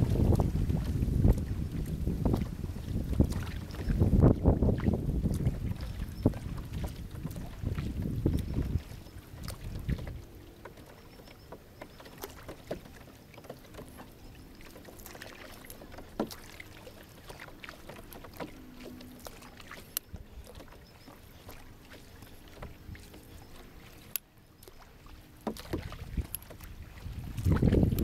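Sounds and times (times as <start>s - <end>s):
paddle knocking against hull: 0.0s - 28.0s
paddle pulling through water: 0.0s - 28.0s
water dripping off paddle: 0.0s - 28.0s.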